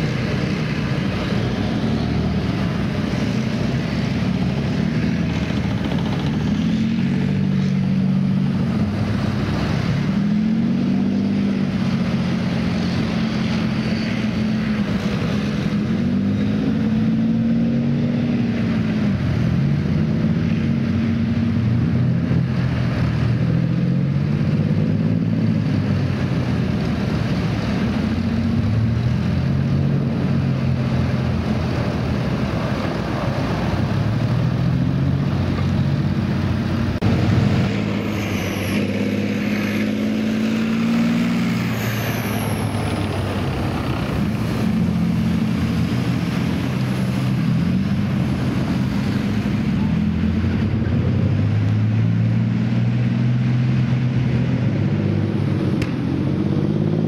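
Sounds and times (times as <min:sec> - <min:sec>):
tracked vehicle diesel engines: 0:00.0 - 0:57.0.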